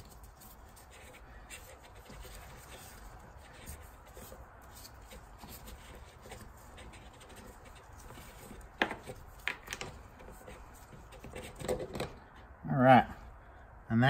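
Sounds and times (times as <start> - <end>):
gloved hands rubbing and handling: 0.0 - 12.4.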